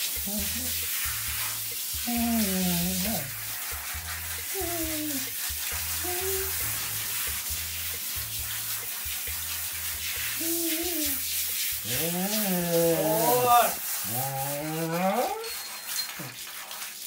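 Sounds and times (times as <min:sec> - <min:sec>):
background music with bass line: 0:00.0 - 0:14.6
water spraying from shower head: 0:00.0 - 0:17.0.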